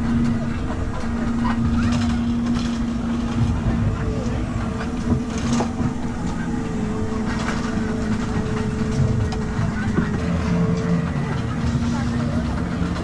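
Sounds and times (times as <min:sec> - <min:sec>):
ride car motor hum: 0:00.0 - 0:13.0
wheels rumbling on track: 0:00.0 - 0:13.0.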